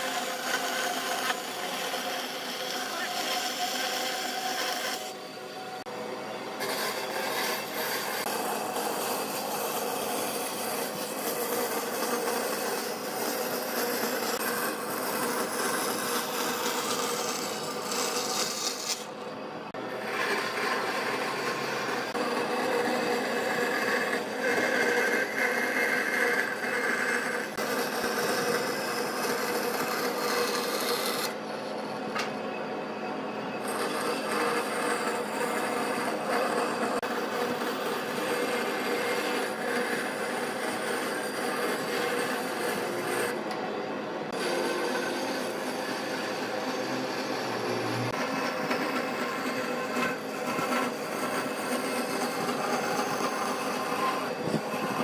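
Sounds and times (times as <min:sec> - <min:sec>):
band saw blade rasping in wood: 0:00.0 - 0:05.2, 0:06.6 - 0:19.2, 0:19.9 - 0:31.5, 0:33.6 - 0:43.4, 0:44.3 - 0:55.0
saw motor running: 0:00.0 - 0:32.3, 0:33.6 - 0:55.0.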